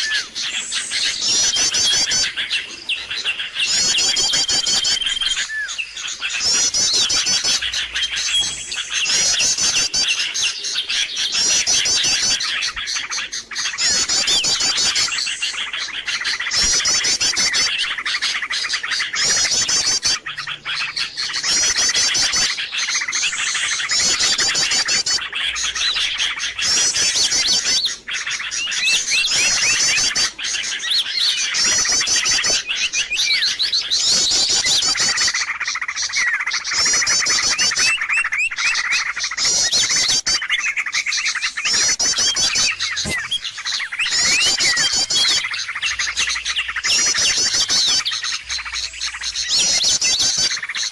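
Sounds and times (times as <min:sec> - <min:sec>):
high trilled bird phrases: 0:00.0 - 0:50.9
small birds chirping and twittering: 0:00.0 - 0:50.9.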